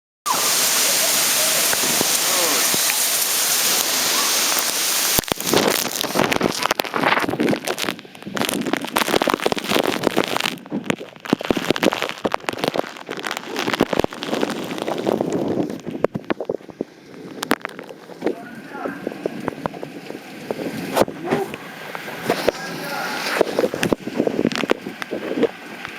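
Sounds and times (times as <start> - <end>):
heavy rain rushing: 0.3 - 25.9
hail clattering on hard surfaces: 0.5 - 25.9.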